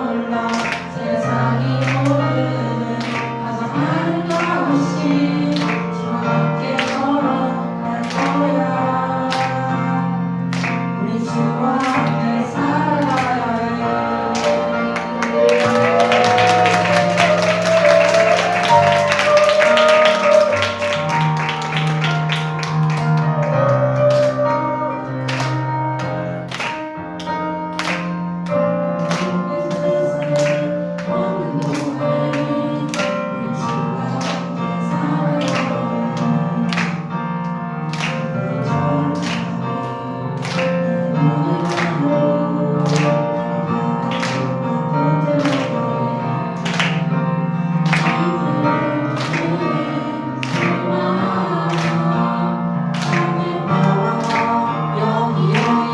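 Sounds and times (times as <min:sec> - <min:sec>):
worship band music: 0:00.0 - 0:55.9.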